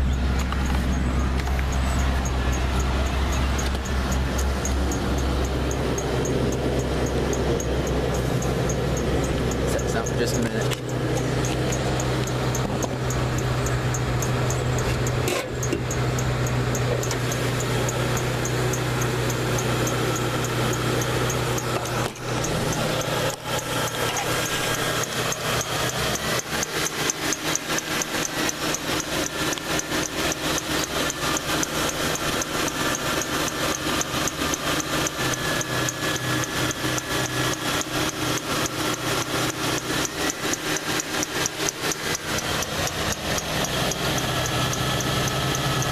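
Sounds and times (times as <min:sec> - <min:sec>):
deep hum: 0:00.0 - 0:37.2
engine idling with rapid ticking: 0:00.0 - 0:45.9.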